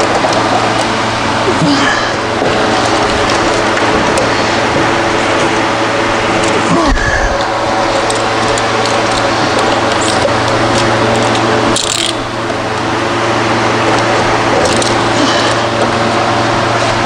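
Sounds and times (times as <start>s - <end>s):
machine hum with rushing noise: 0.0s - 17.0s.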